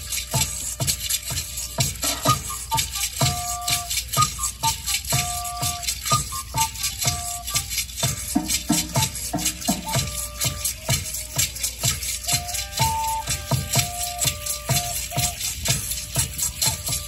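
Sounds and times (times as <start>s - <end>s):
flute melody: 0.0s - 17.0s
shaker rattling: 0.0s - 17.0s
steady drum beat: 0.0s - 17.0s.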